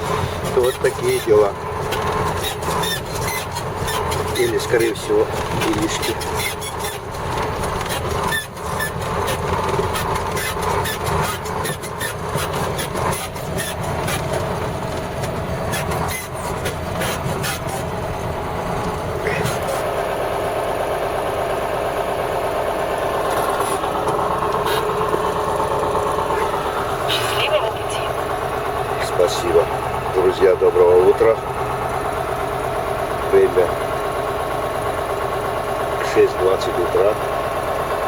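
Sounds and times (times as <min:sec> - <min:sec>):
truck engine running: 0:00.0 - 0:38.0.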